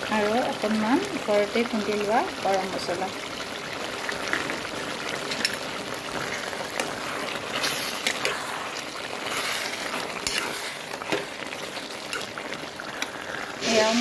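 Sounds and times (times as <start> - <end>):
curry bubbling and sizzling: 0.0 - 14.0.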